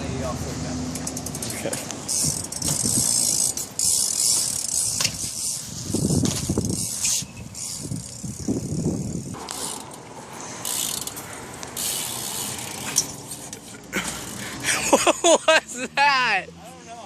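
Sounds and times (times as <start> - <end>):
bike freewheel ratchet clicking: 0.9 - 14.6.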